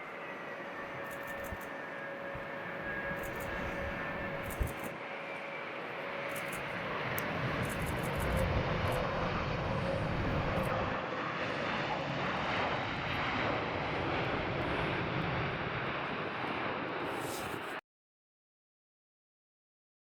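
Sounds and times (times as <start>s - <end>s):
jet engines rushing: 0.0s - 17.8s.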